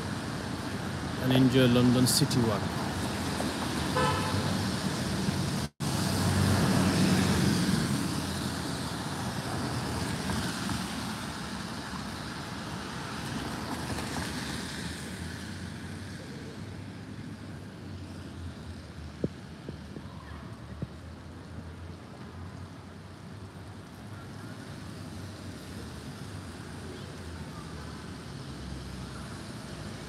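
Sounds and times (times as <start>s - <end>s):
steady road noise: 0.0s - 30.0s
tyres hissing on wet road: 0.0s - 30.0s.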